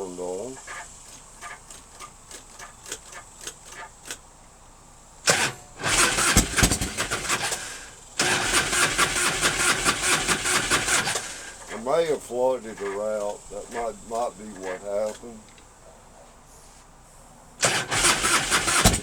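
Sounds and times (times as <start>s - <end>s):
motorcycle starter cranking: 0.0s - 4.4s, 5.1s - 15.7s, 17.6s - 19.0s.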